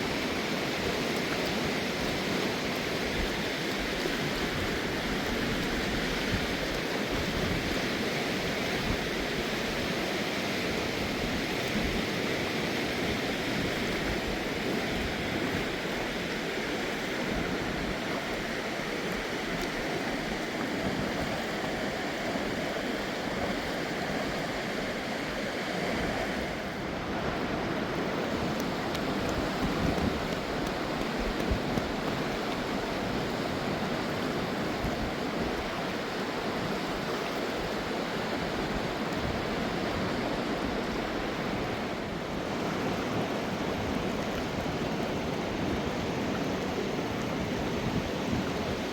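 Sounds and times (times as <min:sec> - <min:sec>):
river rushing: 0:00.0 - 0:48.9.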